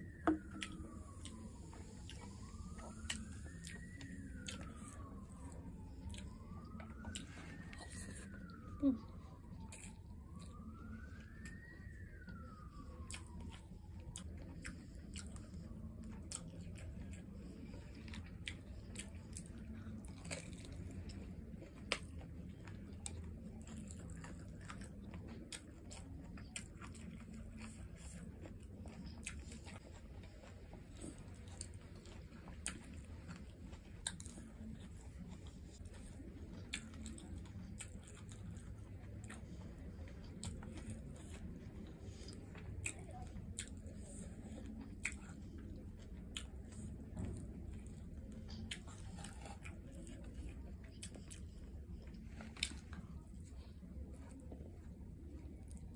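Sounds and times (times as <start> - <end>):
close chewing with wet smacks: 0.0 - 55.9
steady low hum: 0.0 - 55.9.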